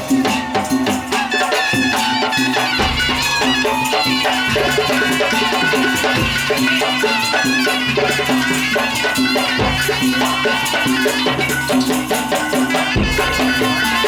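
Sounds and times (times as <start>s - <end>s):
fast percussion beat with rattles: 0.0s - 14.0s.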